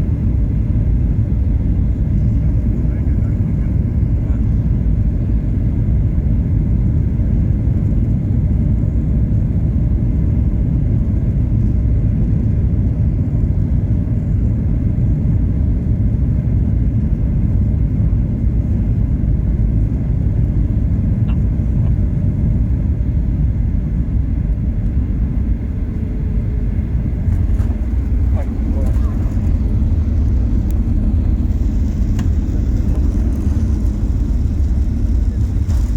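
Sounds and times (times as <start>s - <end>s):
airplane cabin rumble: 0.0s - 35.9s.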